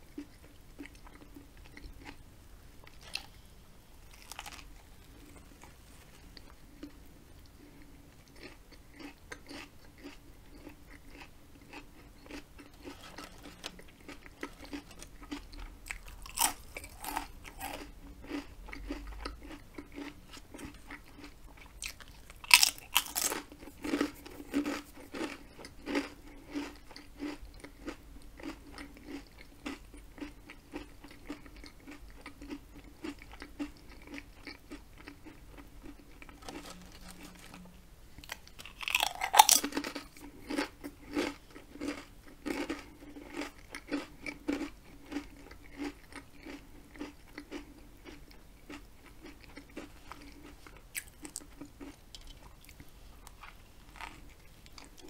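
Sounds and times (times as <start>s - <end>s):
chewing: 0.1s - 2.2s, 2.8s - 55.0s
potato chips crunching: 2.8s - 3.4s, 4.0s - 7.0s, 8.3s - 55.0s.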